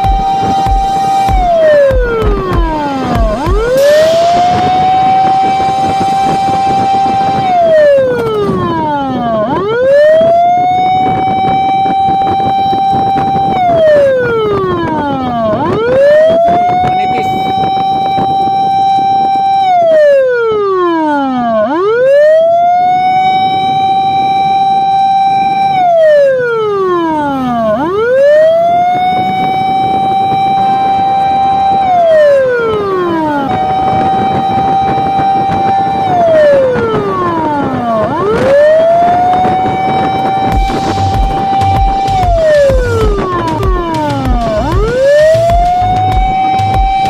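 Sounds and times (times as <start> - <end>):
fire truck siren wailing: 0.0 - 47.0.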